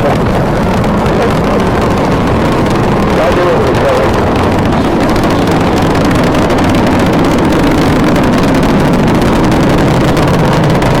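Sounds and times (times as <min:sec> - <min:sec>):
rocket launch roar: 0:00.0 - 0:11.0.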